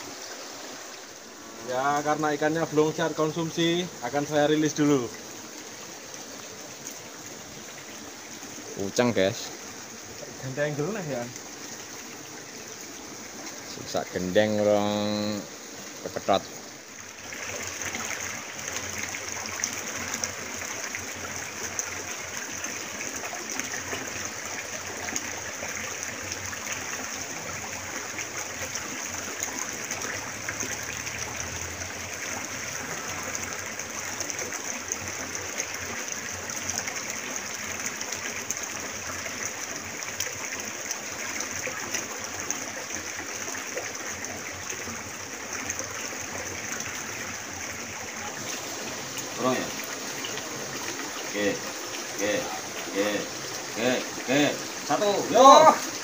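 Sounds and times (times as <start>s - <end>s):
water trickling over stones: 0.0s - 56.0s.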